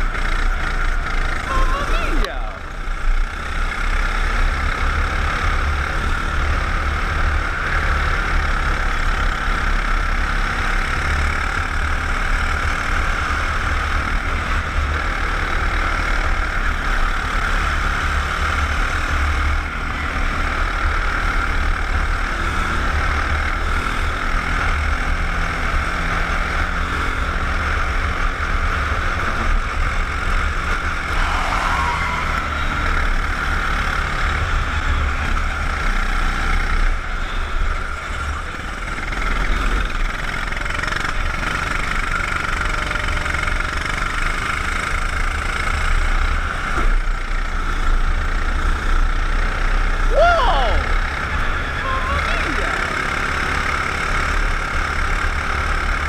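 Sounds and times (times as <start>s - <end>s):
kart engine running hard: 0.0s - 56.0s.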